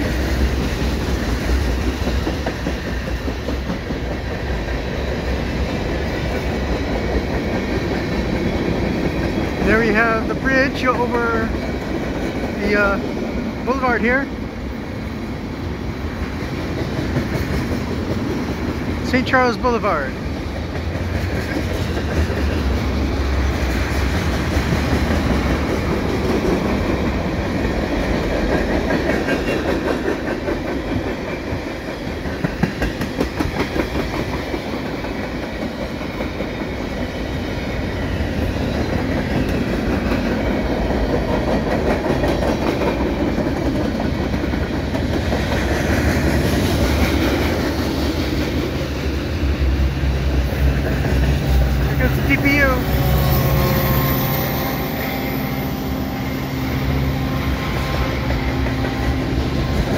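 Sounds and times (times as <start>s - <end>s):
clickety-clack over rail joints: 0.0s - 55.4s, 56.7s - 59.9s
train wheels rumbling: 0.0s - 59.9s.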